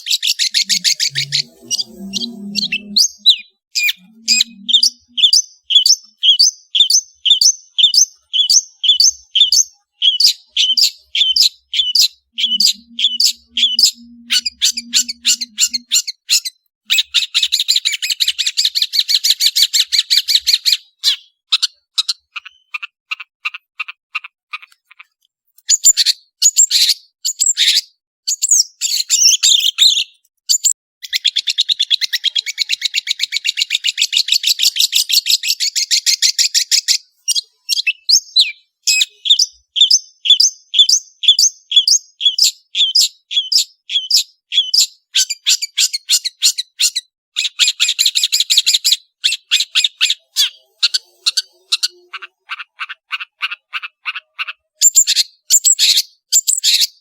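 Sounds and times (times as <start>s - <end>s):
bird singing chattering song: 0.0s - 57.0s.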